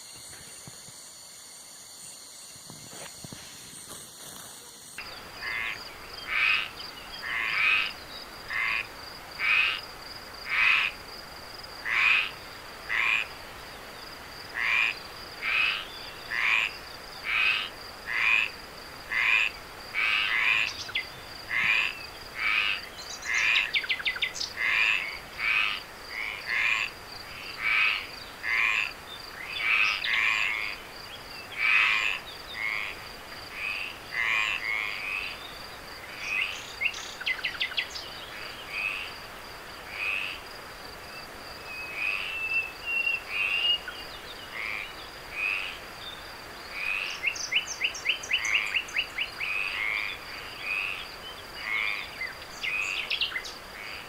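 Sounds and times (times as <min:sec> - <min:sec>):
frogs croaking: 0:00.0 - 0:54.0.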